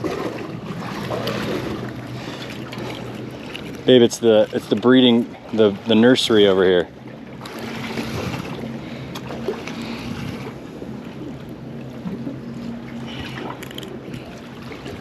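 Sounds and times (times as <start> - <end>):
water around a boat: 0.0 - 15.0.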